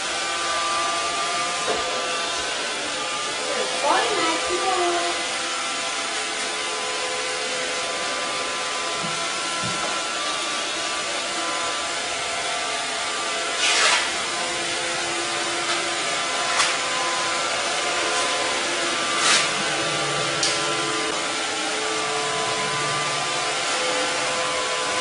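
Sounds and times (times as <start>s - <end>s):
robot vacuum cleaner running: 0.0s - 25.0s.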